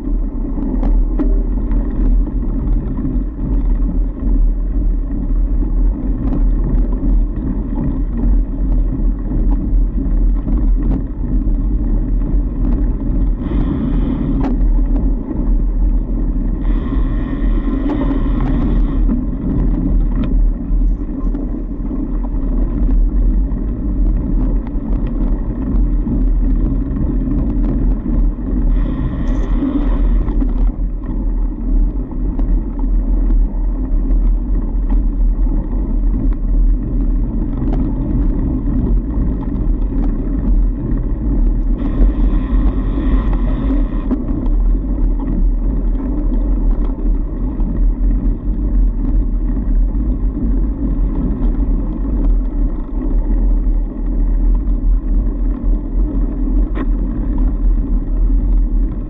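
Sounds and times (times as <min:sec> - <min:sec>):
bike tyres rumbling on snow: 0:00.0 - 0:59.0.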